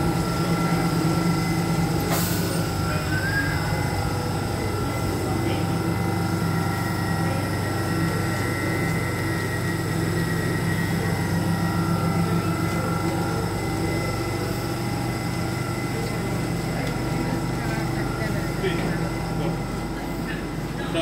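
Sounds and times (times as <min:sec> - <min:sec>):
electric train humming and whining: 0:00.0 - 0:21.0.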